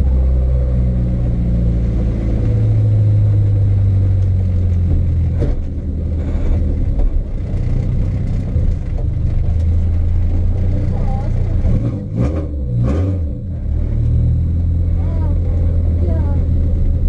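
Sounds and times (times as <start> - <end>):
car engine heard from cabin: 0.0 - 17.0.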